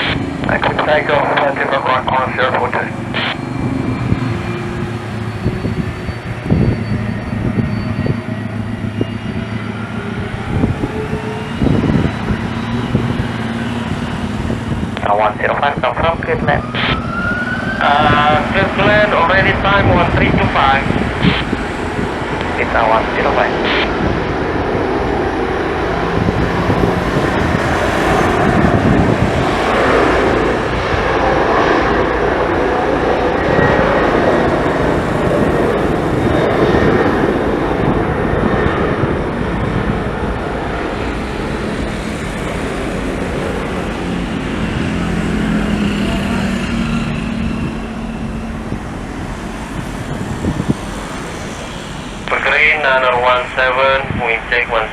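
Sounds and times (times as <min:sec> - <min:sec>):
faint jet engine whine: 0:00.0 - 0:54.9
jet engines rumbling: 0:00.0 - 0:54.9.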